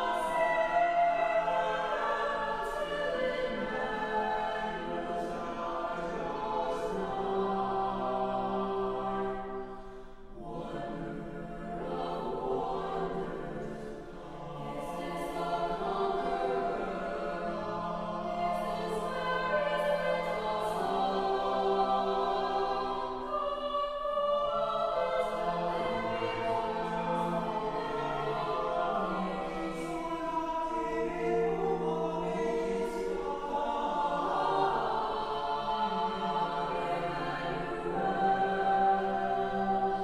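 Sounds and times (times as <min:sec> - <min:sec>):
choir singing a cappella: 0:00.0 - 0:40.0.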